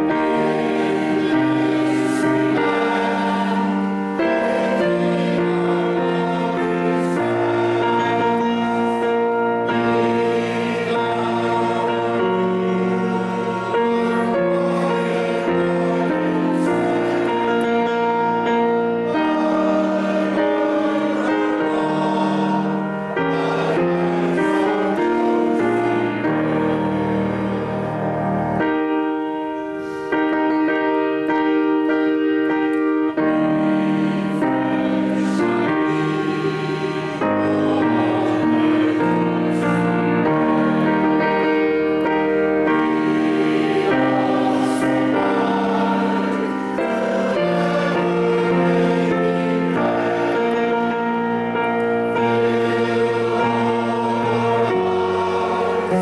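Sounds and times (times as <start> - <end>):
slow church music on keyboard: 0.0 - 56.0.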